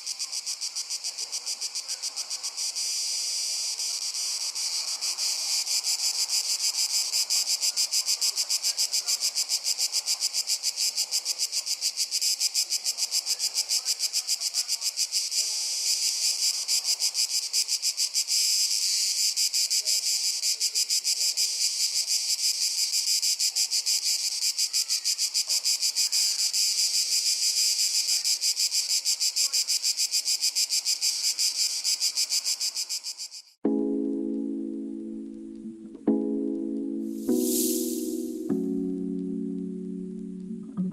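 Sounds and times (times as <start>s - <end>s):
crickets trilling: 0.0s - 33.6s, 37.1s - 40.3s.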